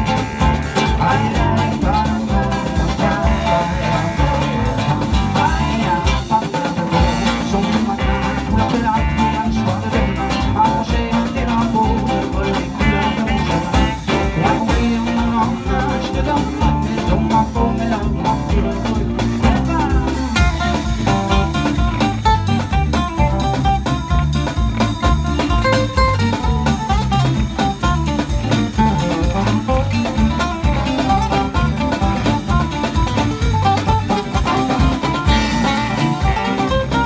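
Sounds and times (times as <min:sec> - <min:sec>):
baritone saxophone: 0:00.0 - 0:37.0
drum kit beat: 0:00.0 - 0:37.0
live band playing: 0:00.0 - 0:37.0.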